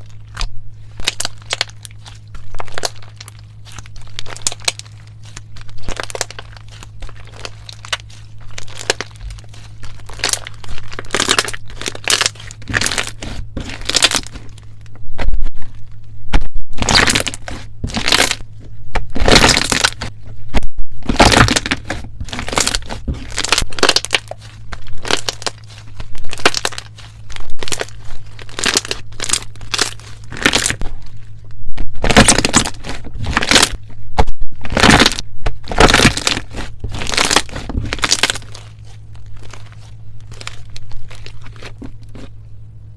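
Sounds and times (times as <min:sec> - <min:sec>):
slime crackling and crunching: 0:00.0 - 0:42.8.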